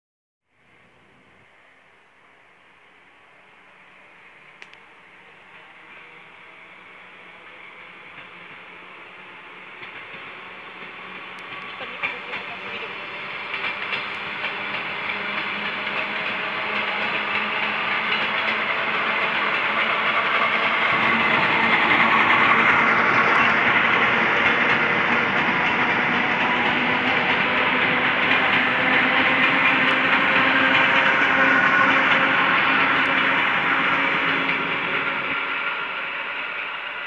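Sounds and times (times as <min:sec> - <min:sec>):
train wheels clattering on rails: 0:04.6 - 0:37.0.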